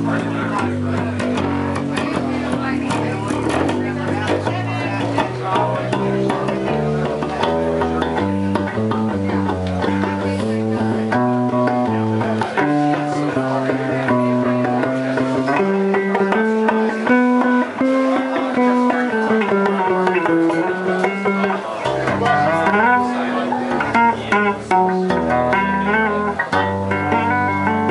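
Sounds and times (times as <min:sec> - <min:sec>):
electric bass guitar melody: 0:00.0 - 0:27.9.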